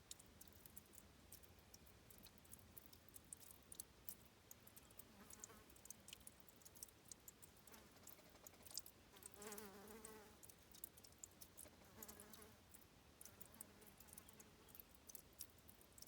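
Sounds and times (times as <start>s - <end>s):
faint high clicks: 0.0s - 16.0s.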